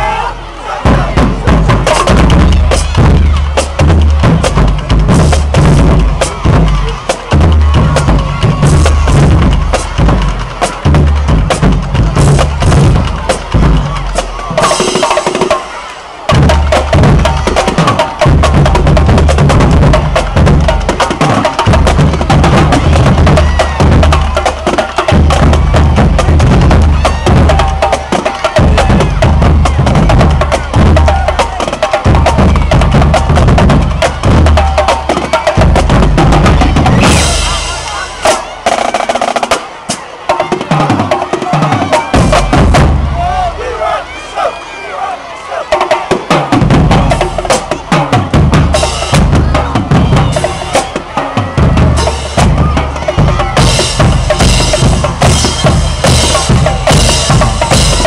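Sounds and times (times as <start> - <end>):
snare and tenor drums: 0.8 - 43.7, 45.6 - 58.0
marching bass drums pounding: 0.8 - 44.6, 45.5 - 58.0.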